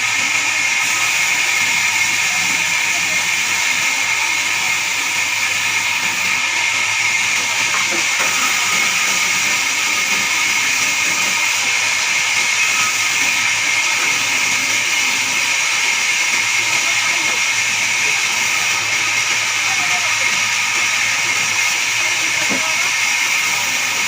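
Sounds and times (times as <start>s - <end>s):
motor running: 0.0s - 24.0s
saw blade hissing and whining: 0.0s - 24.0s.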